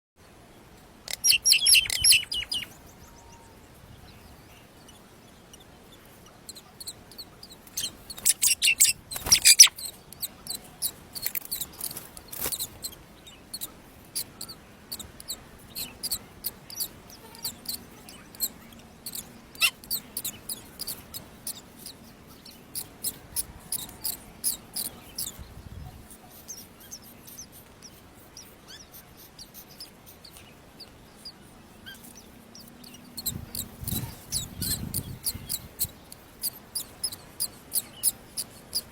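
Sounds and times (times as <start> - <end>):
bird chicks begging chirps: 0.5 - 38.9.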